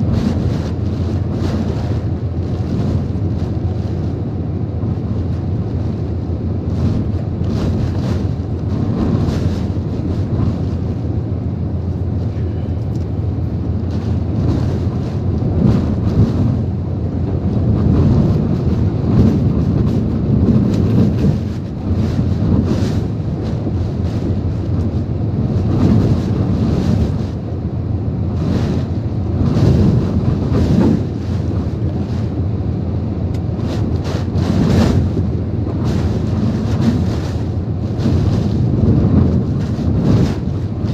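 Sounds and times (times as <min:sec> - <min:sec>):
wind blowing in gusts: 0:00.0 - 0:40.9.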